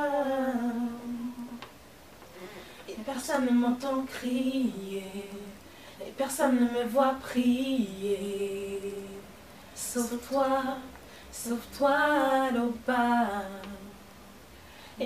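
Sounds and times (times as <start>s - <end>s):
women singing a cappella: 0.0s - 1.7s, 2.8s - 14.3s.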